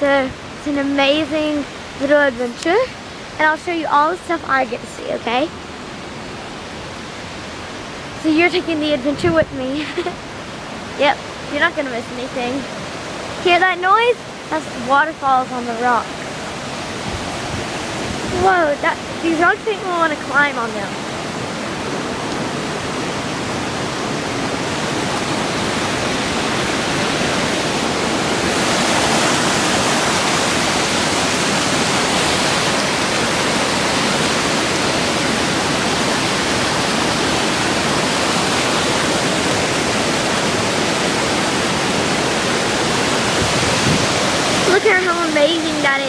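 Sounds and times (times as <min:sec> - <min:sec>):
waterfall pouring over rocks: 0:06.9 - 0:46.0.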